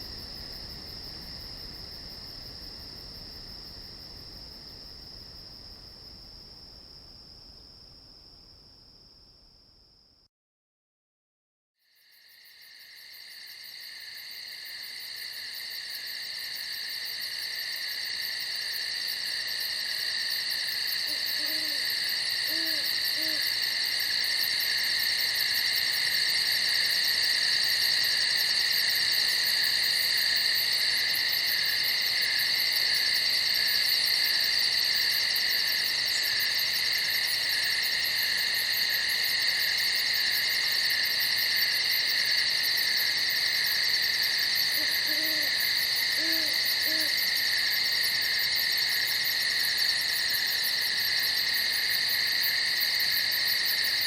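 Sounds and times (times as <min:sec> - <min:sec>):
crickets chirping: 0:00.0 - 0:10.3, 0:11.9 - 0:54.0.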